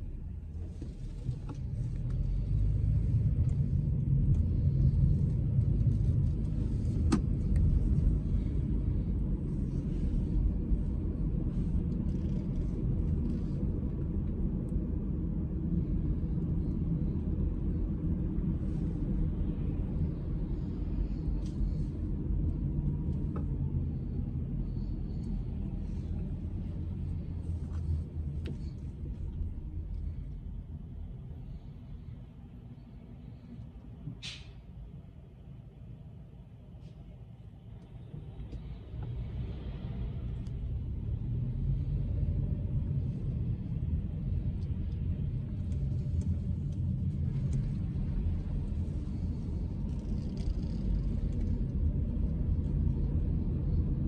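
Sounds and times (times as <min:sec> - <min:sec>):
car driving low rumble: 0:00.0 - 0:54.0.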